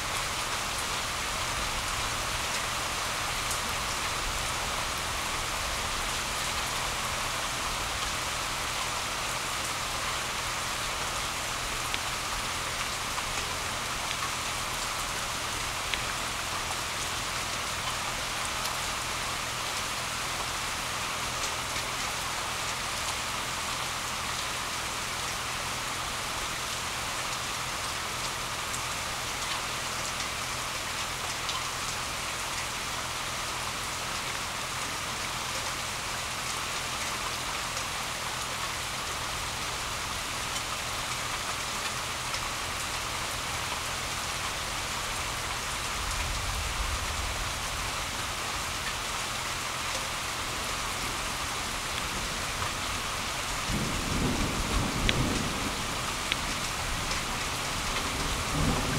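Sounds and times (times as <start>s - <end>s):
rain hissing on leaves: 0.0s - 58.9s.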